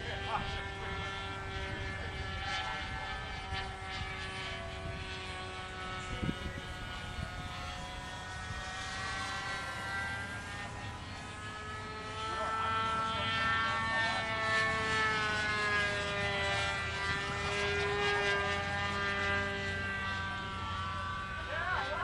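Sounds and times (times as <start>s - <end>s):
model airplane engine buzzing: 0.0s - 22.0s.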